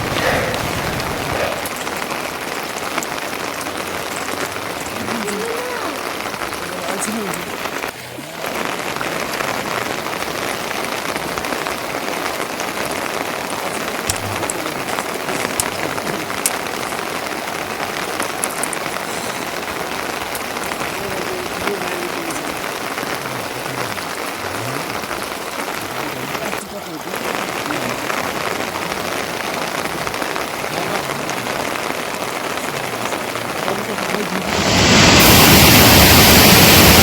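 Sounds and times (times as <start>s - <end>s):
rain falling: 0.0s - 37.0s
sharp raindrop impacts: 0.0s - 37.0s.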